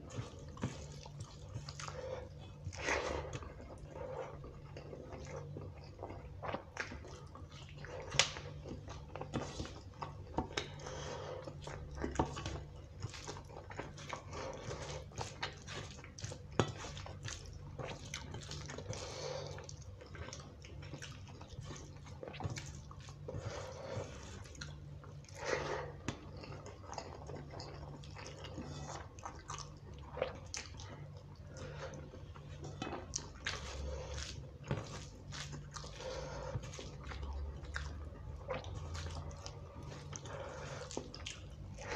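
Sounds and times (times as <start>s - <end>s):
wet chewing and lip smacks: 0.0s - 10.8s, 11.4s - 41.9s.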